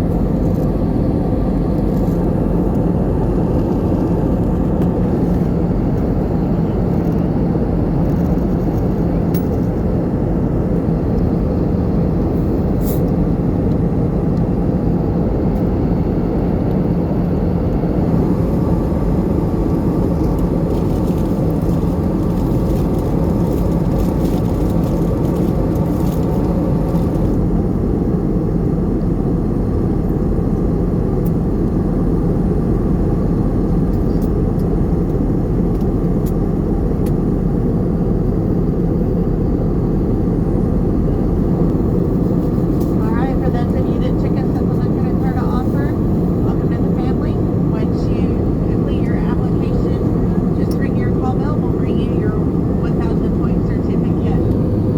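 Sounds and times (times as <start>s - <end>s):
airplane engines roaring: 0.0s - 54.9s
low cabin hum: 0.0s - 54.9s.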